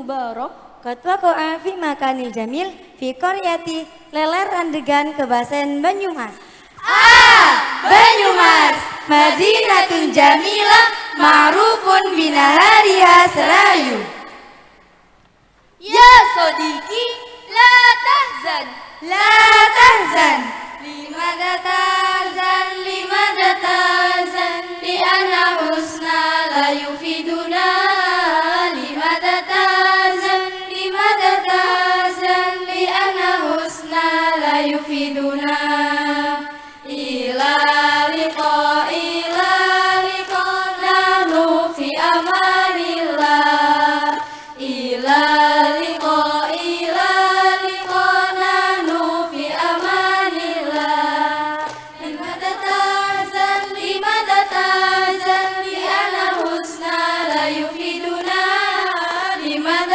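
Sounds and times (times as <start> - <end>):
choir of women singing in unison: 6.8 - 14.8, 15.8 - 59.9.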